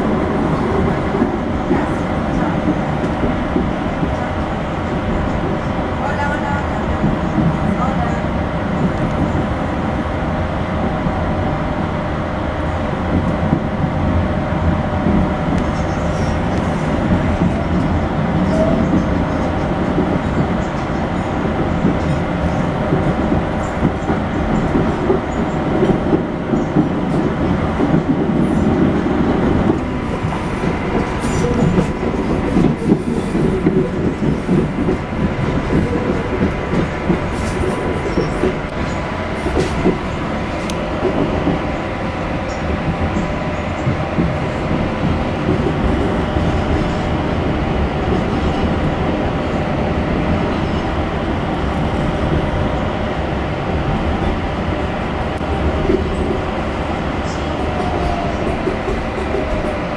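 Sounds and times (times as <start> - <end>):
rumble of wheels on rails: 0.0 - 59.9.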